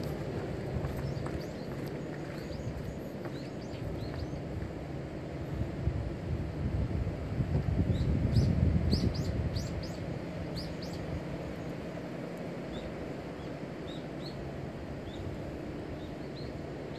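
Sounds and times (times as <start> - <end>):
small birds chirping: 0.0 - 4.8, 7.8 - 16.9
wind rumble on microphone: 0.0 - 16.9.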